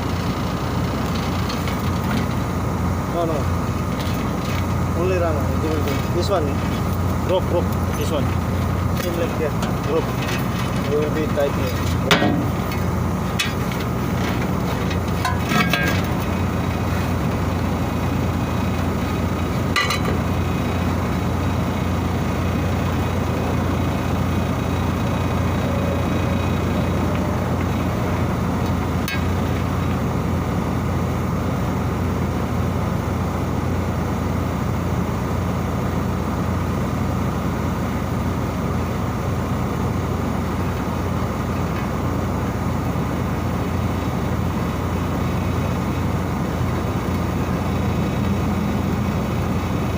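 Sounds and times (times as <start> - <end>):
heavy machinery humming: 0.0 - 49.9.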